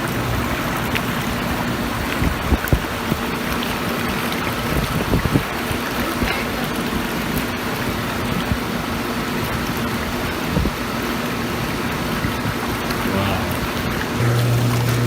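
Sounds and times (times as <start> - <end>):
faint pump hum: 0.0 - 15.0
hot tub water churning: 0.0 - 15.0.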